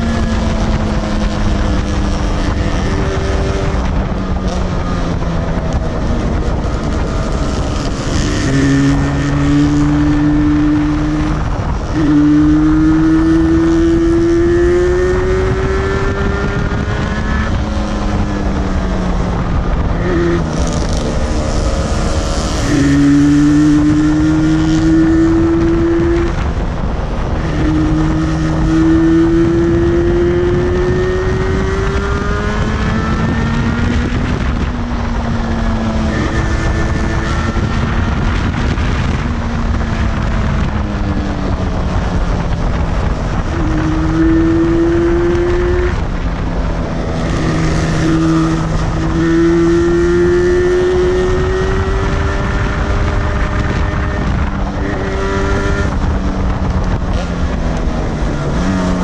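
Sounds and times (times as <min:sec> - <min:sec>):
motorcycle engine accelerating: 0:00.0 - 0:59.0
wind buffeting microphone: 0:00.0 - 0:59.0.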